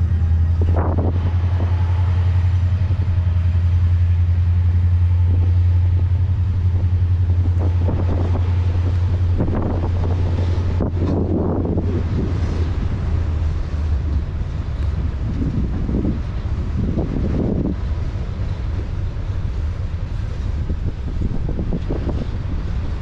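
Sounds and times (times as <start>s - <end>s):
freight train rumbling: 0.0s - 23.0s.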